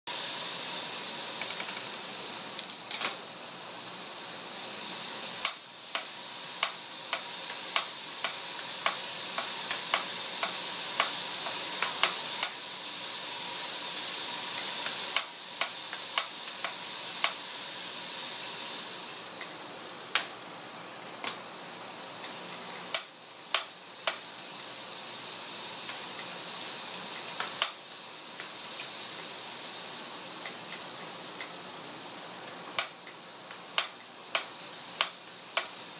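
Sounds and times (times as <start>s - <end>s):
bike drivetrain hissing: 0.1s - 35.9s.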